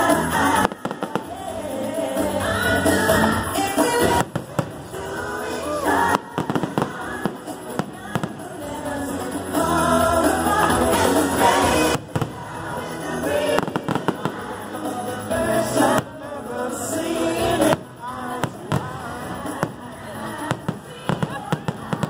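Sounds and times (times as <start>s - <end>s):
show music: 0.0s - 22.0s
fireworks popping and banging: 0.3s - 22.0s.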